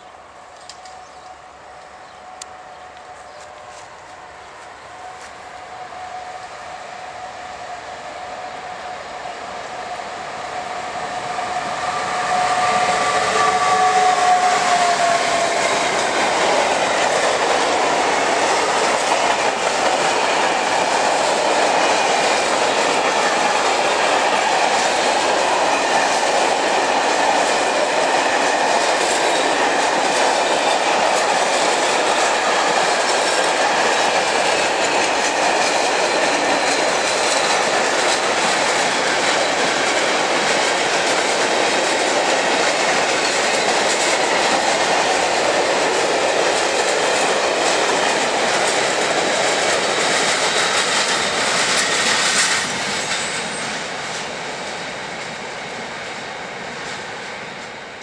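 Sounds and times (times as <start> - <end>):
steel wheels rumbling on rails: 2.5 - 58.0.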